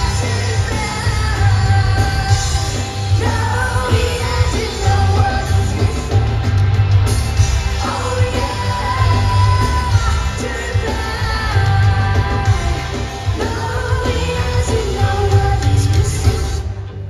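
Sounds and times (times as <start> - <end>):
person singing: 0.0 - 6.4, 7.8 - 16.8
pop-rock band playing: 0.0 - 17.0.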